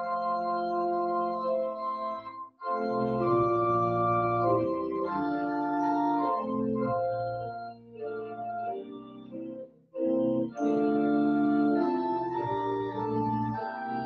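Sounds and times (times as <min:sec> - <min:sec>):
organ playing sustained chords: 0:00.0 - 0:14.0.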